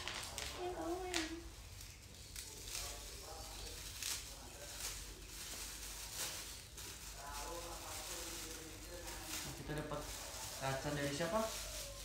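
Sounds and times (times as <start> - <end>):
gift unpacking rustles and crinkles: 0.0 - 12.0
low murmured voices: 0.0 - 12.0.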